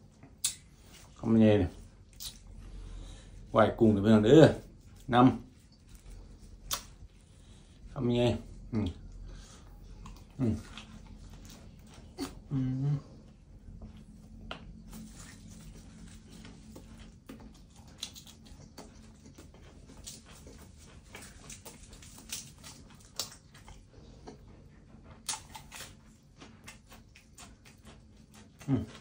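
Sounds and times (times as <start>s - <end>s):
chewing with wet mouth clicks: 0.0s - 1.2s, 2.0s - 2.8s, 4.5s - 12.5s, 13.6s - 29.0s
faint low hum: 0.0s - 29.0s.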